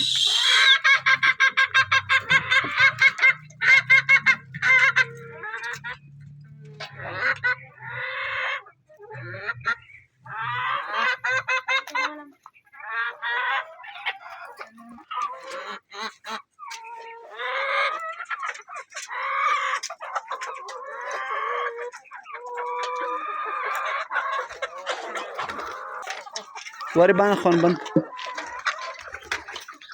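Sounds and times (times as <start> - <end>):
hens clucking: 0.0 - 29.9.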